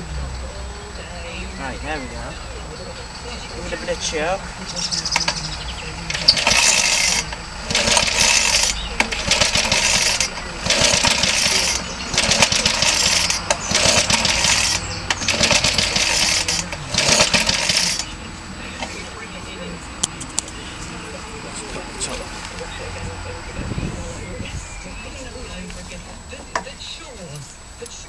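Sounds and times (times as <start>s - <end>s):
lawnmower engine turning over: 3.0s - 28.0s.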